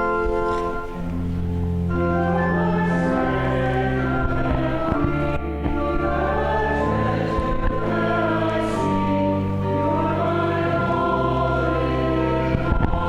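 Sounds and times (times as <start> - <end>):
congregation singing a hymn: 0.0 - 13.0
organ chords: 0.0 - 13.0.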